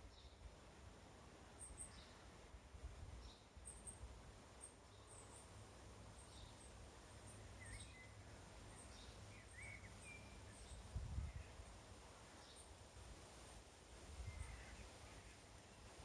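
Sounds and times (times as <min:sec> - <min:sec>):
faint birds chirping: 0:01.4 - 0:13.0, 0:14.0 - 0:16.0.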